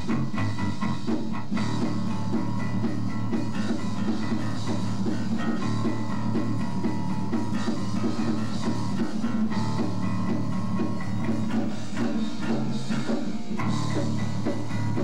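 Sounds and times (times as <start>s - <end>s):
drum kit playing: 0.0s - 15.0s
electric guitar plucking: 0.0s - 15.0s.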